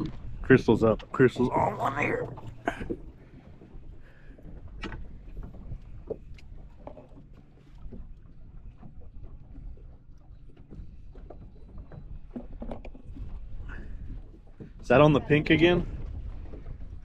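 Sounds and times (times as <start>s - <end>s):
outboard motor droning: 0.0s - 17.0s
water against hull: 0.0s - 17.0s.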